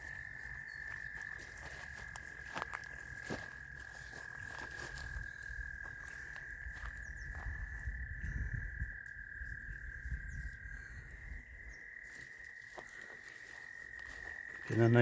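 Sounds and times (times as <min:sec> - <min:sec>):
frogs trilling: 0:00.0 - 0:15.0.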